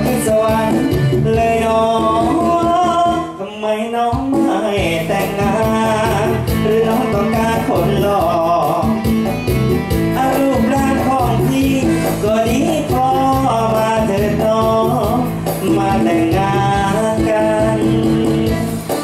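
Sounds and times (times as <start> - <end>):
upbeat country song: 0.0 - 19.0.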